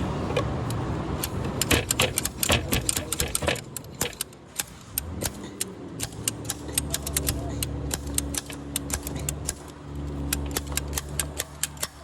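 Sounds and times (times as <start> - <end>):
metal tool clinking and rattling: 0.2 - 12.0.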